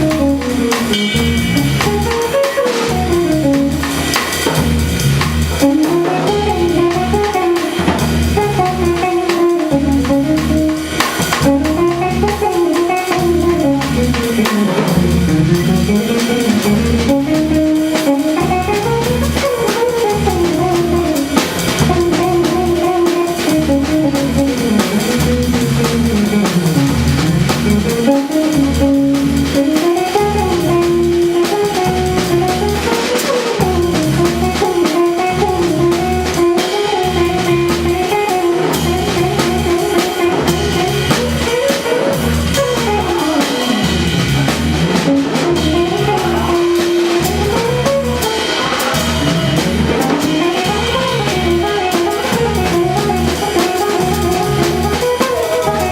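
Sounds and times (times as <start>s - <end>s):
jazz trio playing: 0.0s - 55.9s.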